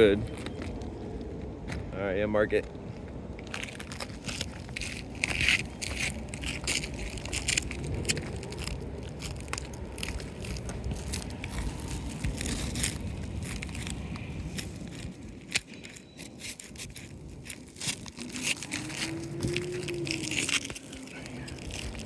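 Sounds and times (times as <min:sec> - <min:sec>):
crunching and scraping on shingles: 0:00.0 - 0:22.0.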